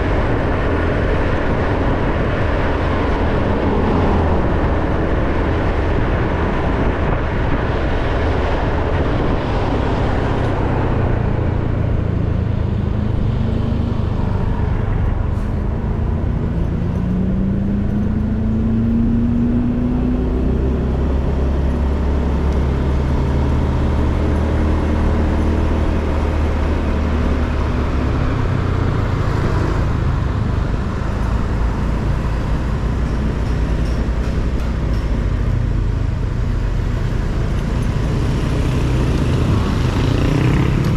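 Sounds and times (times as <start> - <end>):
road noise: 0.0 - 40.9
wind: 0.0 - 40.9.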